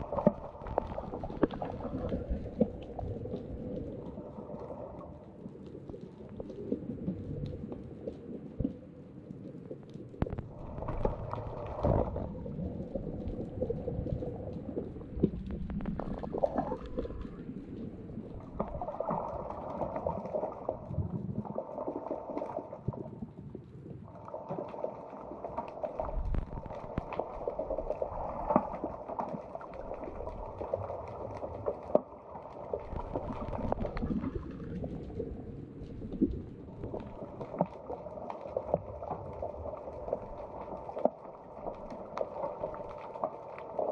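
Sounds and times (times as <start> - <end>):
underwater water movement and bubbling: 0.0 - 43.9.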